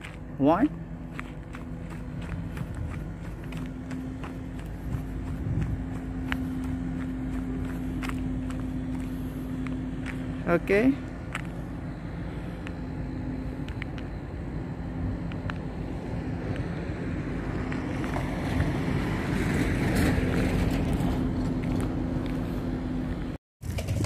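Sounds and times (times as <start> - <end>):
low machine hum: 0.0 - 23.4
outdoor rumbling noise: 0.0 - 24.0.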